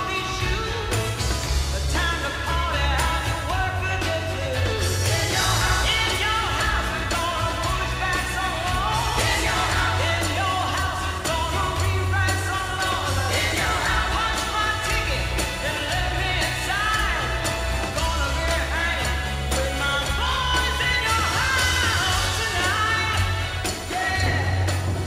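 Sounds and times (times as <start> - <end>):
song with vocals drums and bass: 0.0 - 25.0.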